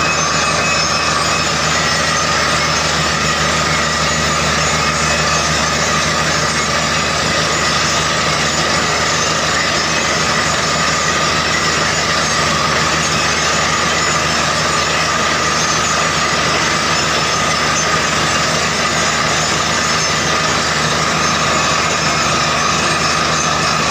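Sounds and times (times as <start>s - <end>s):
drilling rig engine running: 0.0s - 23.9s
high whine: 0.0s - 23.9s.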